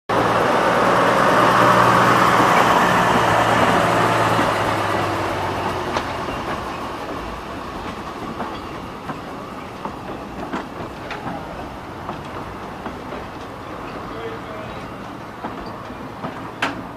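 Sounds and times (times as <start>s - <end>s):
diesel locomotive engine: 0.1s - 16.9s
wheels clicking over rail joints: 1.4s - 16.9s.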